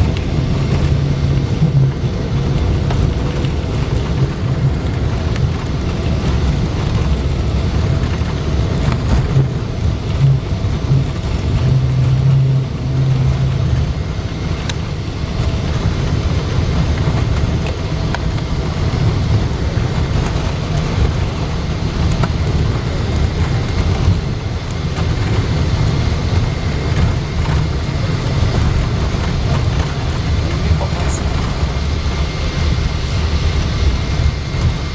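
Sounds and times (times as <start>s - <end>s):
jet engines and airflow rumble: 0.0s - 34.9s.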